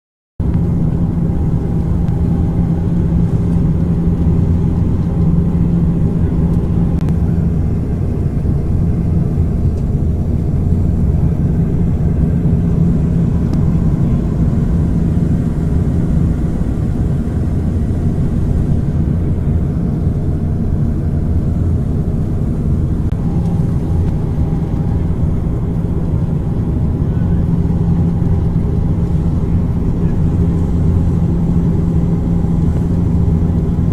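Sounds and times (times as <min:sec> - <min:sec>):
airplane landing rumble: 0:00.4 - 0:33.9.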